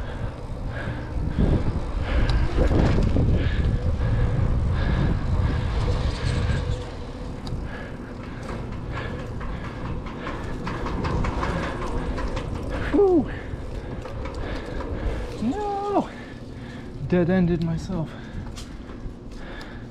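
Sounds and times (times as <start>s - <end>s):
wind rushing over microphone: 0.0s - 18.9s
bicycle clicks and rattles: 0.0s - 19.9s
bicycle tyres on concrete: 0.0s - 19.9s.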